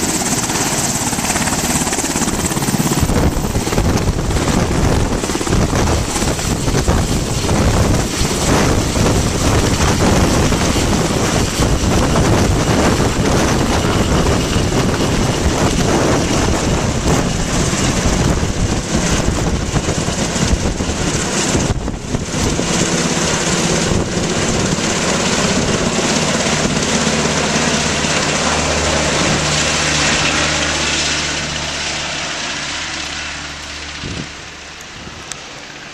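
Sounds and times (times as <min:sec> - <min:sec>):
helicopter rotor chop: 0:00.0 - 0:35.9.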